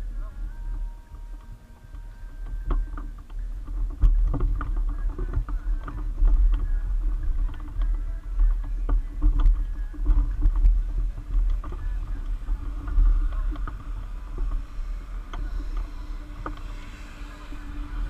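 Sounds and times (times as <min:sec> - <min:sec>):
faint steady hum: 0:00.0 - 0:18.0
wind buffeting microphone: 0:00.0 - 0:18.0.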